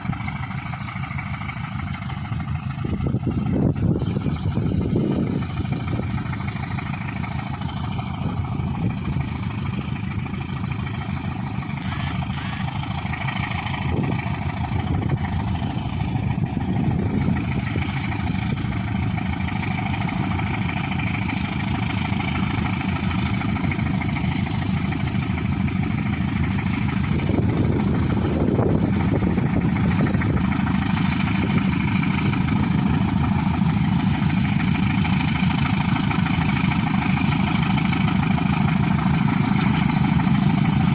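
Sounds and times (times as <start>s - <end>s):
freight train diesel engines running: 0.0s - 40.9s.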